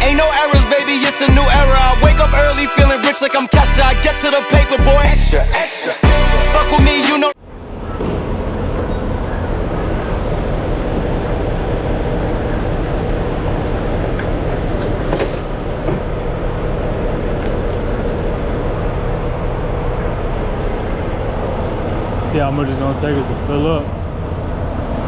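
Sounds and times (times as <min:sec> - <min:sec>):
diesel engine rumbling: 0:00.0 - 0:02.8, 0:03.6 - 0:25.0.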